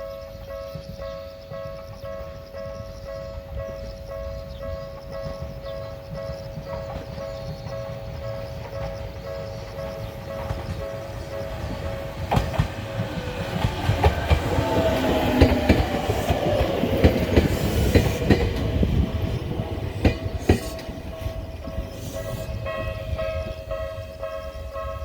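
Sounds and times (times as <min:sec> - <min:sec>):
crossing warning bell ringing: 0:00.0 - 0:25.0
train wheels clicking over rail joints: 0:00.7 - 0:25.0
wind rumbling on microphone: 0:01.6 - 0:25.0.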